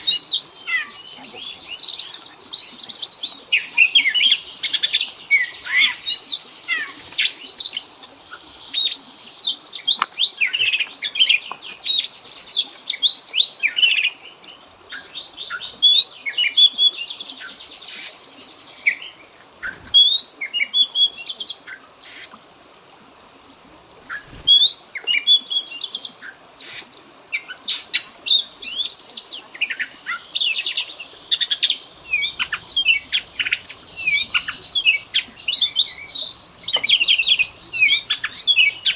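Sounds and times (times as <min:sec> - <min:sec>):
songbird singing whistles and trills: 0:00.0 - 0:22.8, 0:24.1 - 0:38.9.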